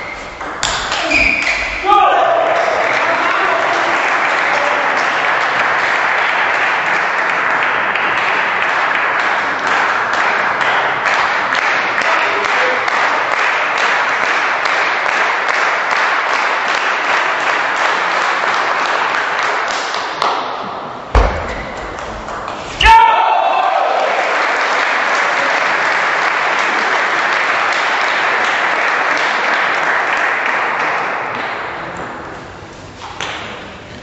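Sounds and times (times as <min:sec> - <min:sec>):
spectators applauding in rhythm: 0:00.6 - 0:20.6, 0:22.2 - 0:32.0.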